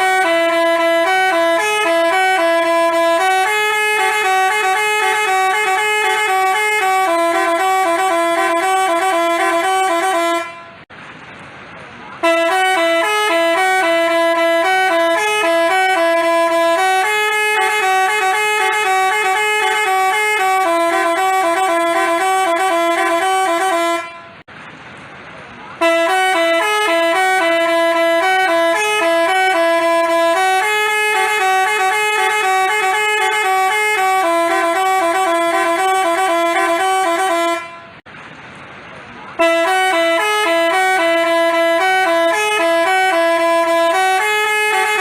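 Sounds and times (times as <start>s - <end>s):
musical bus horn: 0.0s - 10.9s, 12.2s - 24.5s, 25.8s - 38.1s, 39.4s - 45.0s.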